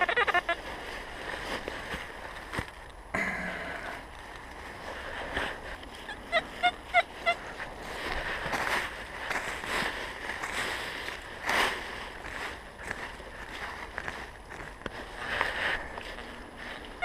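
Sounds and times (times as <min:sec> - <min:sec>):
dry leaves rustling underfoot: 0:00.0 - 0:03.1, 0:03.8 - 0:17.0.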